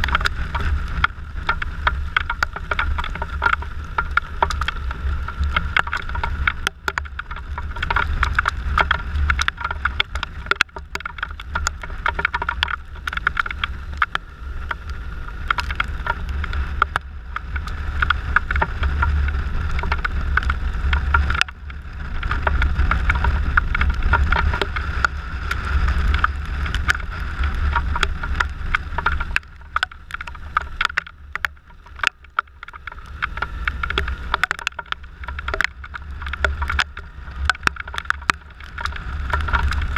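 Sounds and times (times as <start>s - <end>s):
raindrops ticking on camera: 0.0s - 39.9s
wind rushing over microphone: 0.0s - 39.9s.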